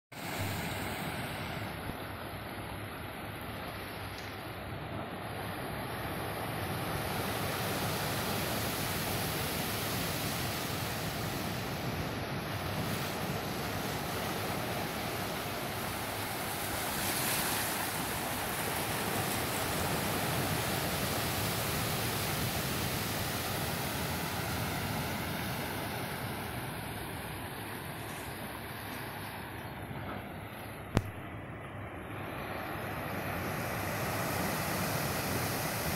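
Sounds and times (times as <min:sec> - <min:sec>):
ocean surf washing over rocks: 0:00.2 - 0:28.0, 0:30.9 - 0:35.9.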